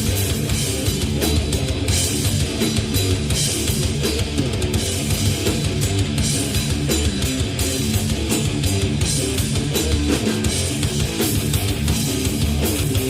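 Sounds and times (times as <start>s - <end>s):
heavy metal band playing: 0.0s - 13.0s.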